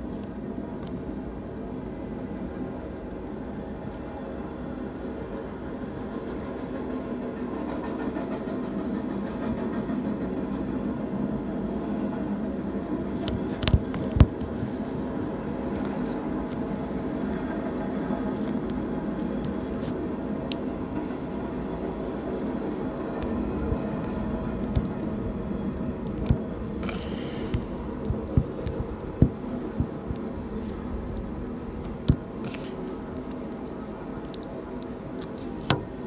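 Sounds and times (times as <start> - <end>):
freight train rumbling clatter: 0.0 - 36.0.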